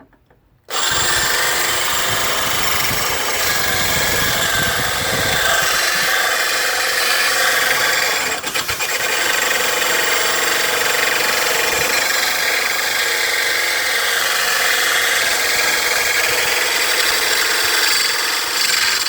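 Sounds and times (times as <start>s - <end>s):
drill grinding steel blade: 0.7s - 19.0s.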